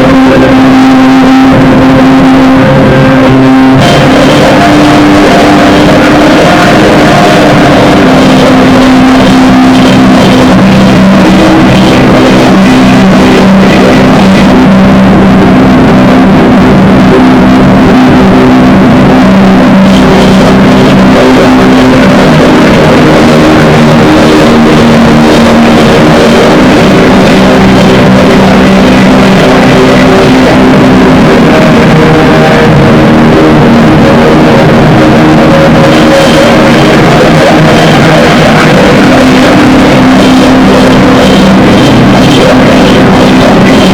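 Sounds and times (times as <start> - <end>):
drone metal music: 0.0 - 43.9.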